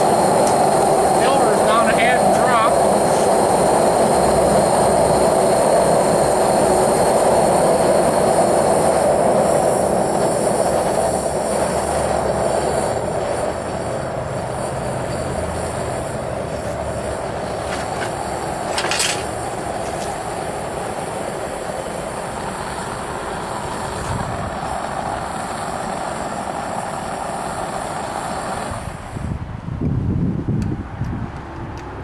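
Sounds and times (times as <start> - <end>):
gas burner flame hissing: 0.0 - 32.0.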